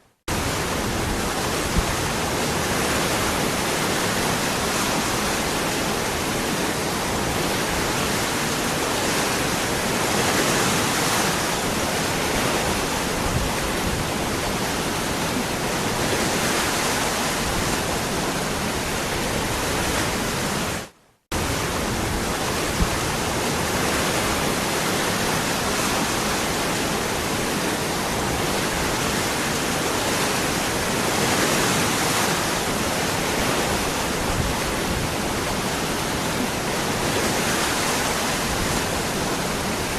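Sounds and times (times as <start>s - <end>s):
waterfall roaring: 0.3s - 39.9s.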